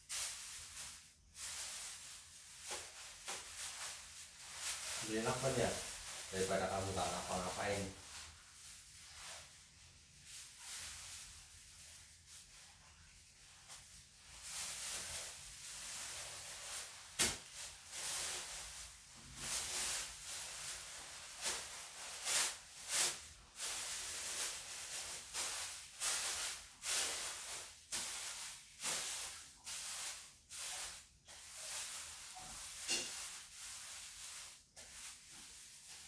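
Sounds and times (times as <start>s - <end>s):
plastic sheeting crinkling: 0.0s - 36.0s.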